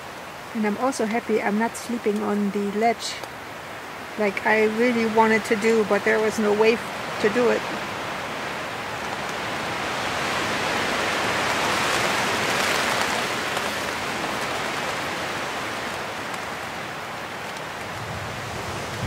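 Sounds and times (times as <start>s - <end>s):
rain falling on a tent: 0.0s - 19.0s.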